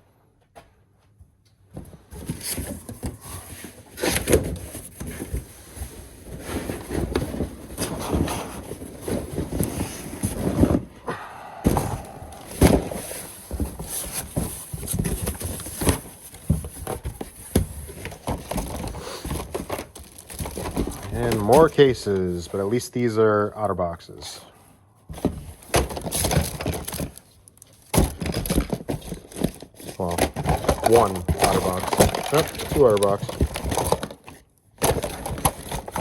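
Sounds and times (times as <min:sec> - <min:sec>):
boxes and packaging handled: 0:00.6 - 0:36.0.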